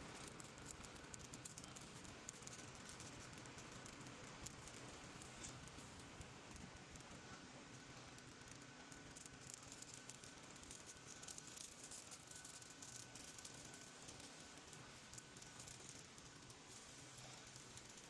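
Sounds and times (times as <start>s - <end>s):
faint background hiss: 0.0s - 18.0s
light crackling: 0.0s - 18.0s.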